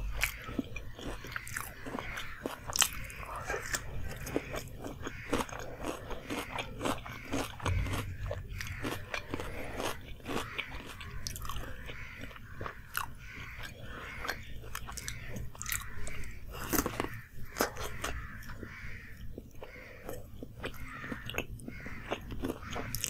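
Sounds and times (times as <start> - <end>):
crisp pastry crunching: 0.0 - 18.6, 20.4 - 23.0.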